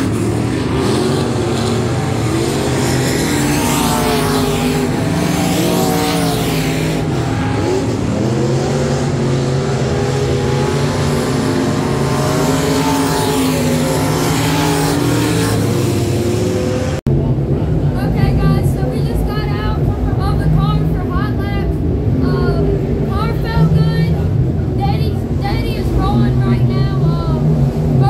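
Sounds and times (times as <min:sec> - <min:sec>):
race car engines: 0:00.0 - 0:28.0.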